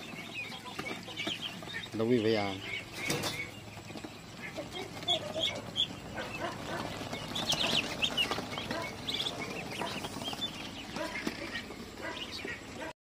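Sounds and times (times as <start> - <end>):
ducklings peeping: 0.0 - 12.9.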